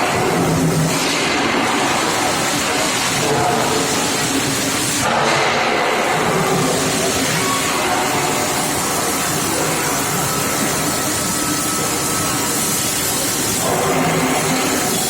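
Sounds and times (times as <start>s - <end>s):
continuous machine din: 0.0s - 15.0s.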